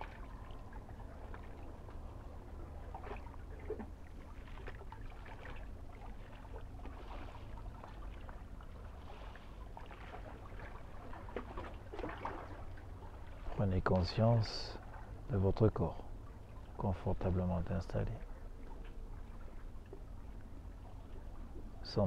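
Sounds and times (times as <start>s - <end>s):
small waves lapping at shore: 0.0s - 22.0s
steady low rumble: 0.0s - 22.0s.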